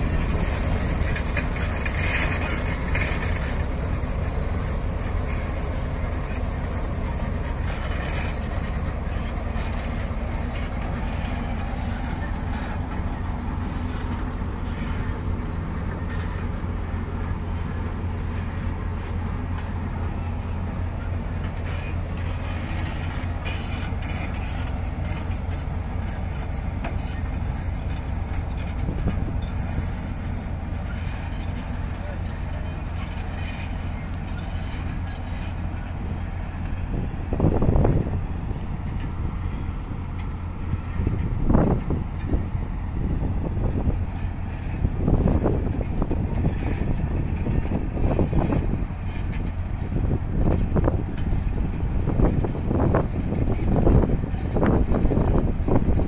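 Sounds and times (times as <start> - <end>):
diesel machinery engine droning: 0.0 - 56.0.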